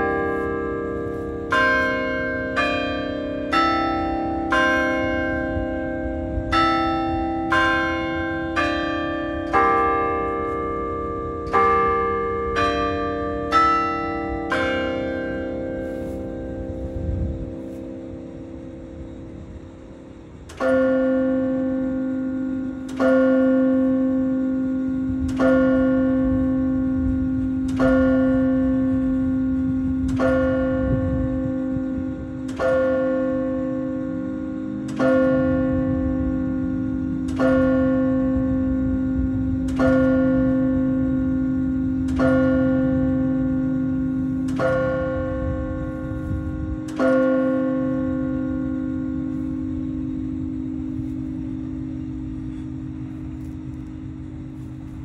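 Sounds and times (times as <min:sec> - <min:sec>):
carillon bell striking: 0:00.0 - 0:19.2, 0:20.6 - 0:55.0.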